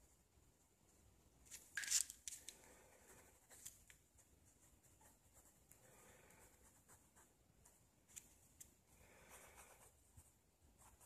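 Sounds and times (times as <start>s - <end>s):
ballpoint pen scratching on paper: 1.8s - 11.0s.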